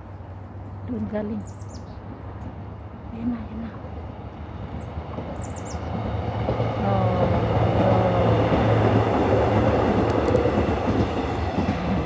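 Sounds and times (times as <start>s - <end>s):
subway train passing: 0.0s - 12.0s.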